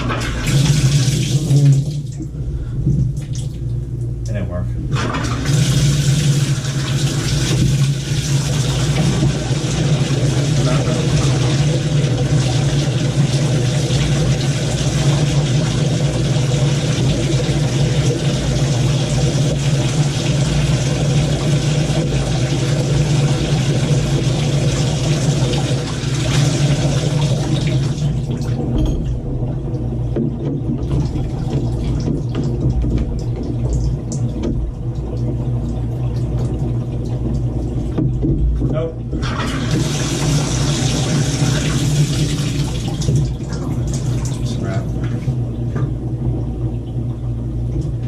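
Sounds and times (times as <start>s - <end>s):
water running from faucet: 0.0s - 2.2s, 4.9s - 38.2s, 39.1s - 47.1s
steady low hum: 0.0s - 48.0s.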